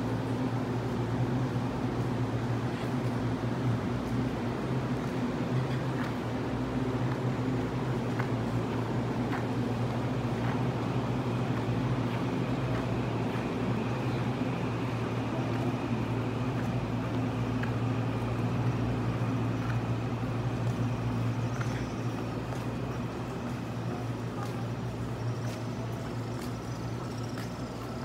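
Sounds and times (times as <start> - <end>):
train hum inside passenger car: 0.0 - 28.0.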